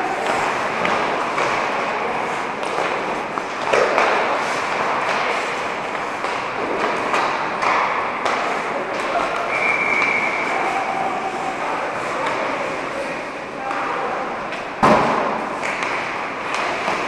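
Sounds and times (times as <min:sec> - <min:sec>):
hockey sticks clacking pucks: 0:00.0 - 0:17.0.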